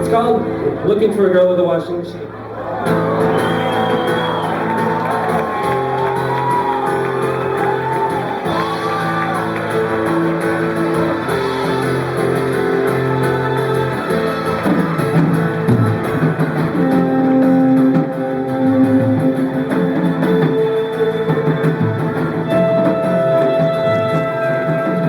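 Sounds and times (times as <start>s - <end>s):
electric guitar chords: 0.0s - 1.3s, 2.2s - 25.0s
bass line: 2.2s - 25.0s.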